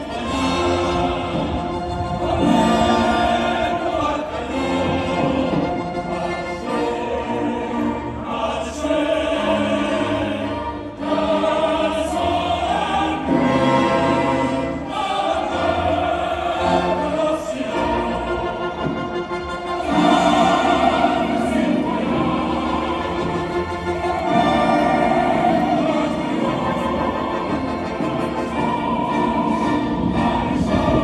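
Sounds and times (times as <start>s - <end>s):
choir singing: 0.0s - 31.0s
symphony orchestra playing: 0.0s - 31.0s.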